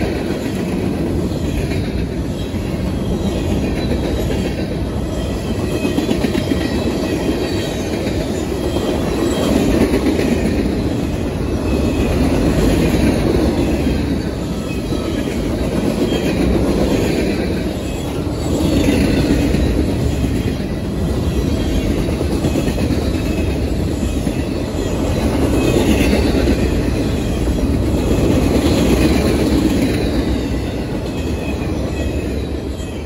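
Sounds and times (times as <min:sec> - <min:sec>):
freight train wheels on rail: 0:00.0 - 0:33.0.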